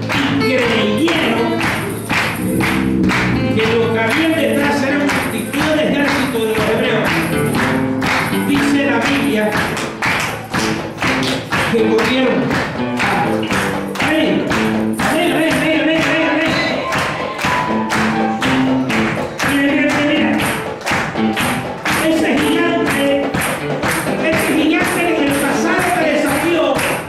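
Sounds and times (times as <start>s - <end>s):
fast percussion beat: 0.0s - 27.0s
upbeat church worship music: 0.0s - 27.0s.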